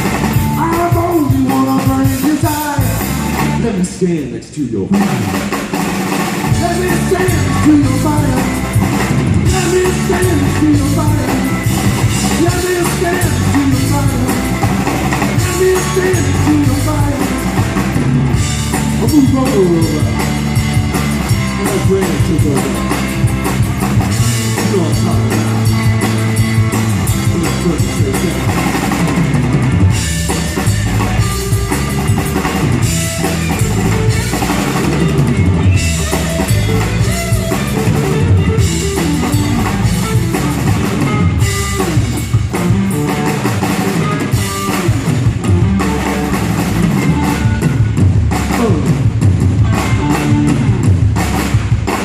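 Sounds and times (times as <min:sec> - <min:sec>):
bass: 0:00.0 - 0:52.0
drum kit: 0:00.0 - 0:52.0
guitar: 0:00.0 - 0:52.0.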